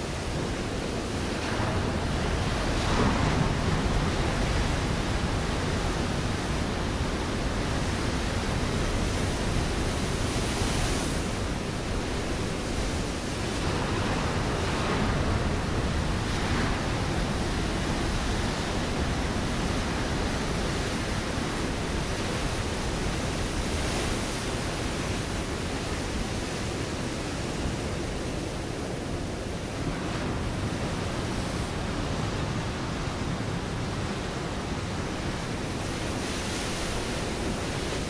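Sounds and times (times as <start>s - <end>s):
waves breaking on rocky shore: 0.0s - 38.0s.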